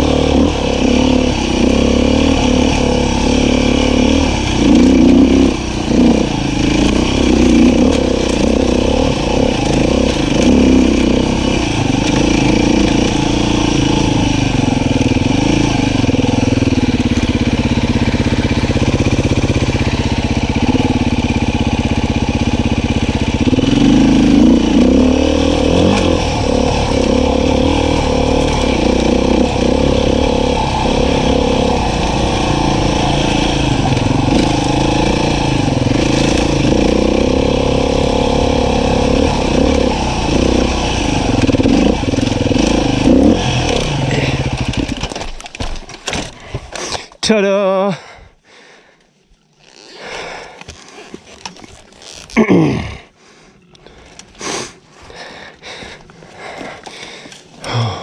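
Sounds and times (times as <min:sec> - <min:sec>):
dirt bike engine revving: 0:00.0 - 0:46.9, 0:55.9 - 0:58.0.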